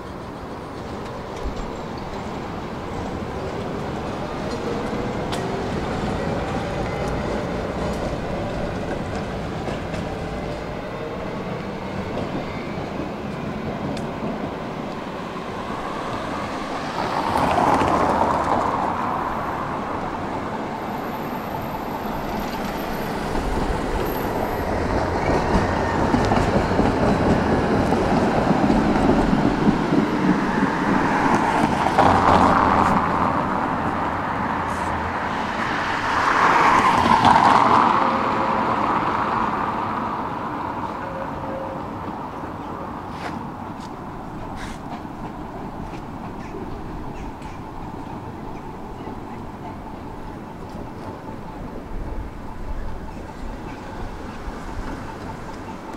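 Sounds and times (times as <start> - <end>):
tram wheels rumbling on rails: 0.0 - 55.9.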